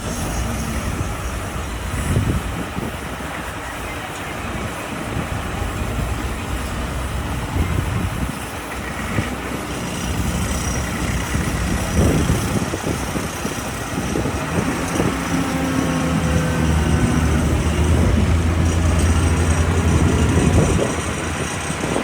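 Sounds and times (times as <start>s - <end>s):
excavator diesel engine rumbling: 0.0s - 22.0s
uneven mechanical noise: 0.0s - 22.0s.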